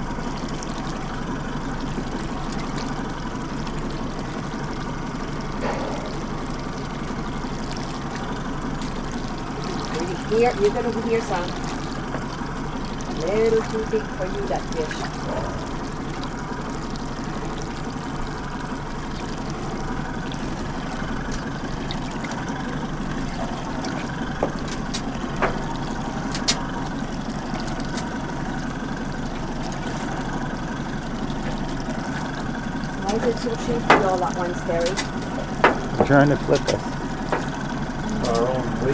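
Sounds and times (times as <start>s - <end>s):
boat engine running: 0.0s - 38.9s
water sloshing against hull: 0.0s - 38.9s.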